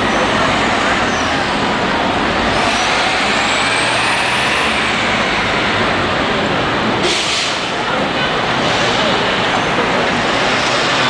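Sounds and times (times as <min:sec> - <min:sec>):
buses and traffic passing: 0:00.0 - 0:11.0.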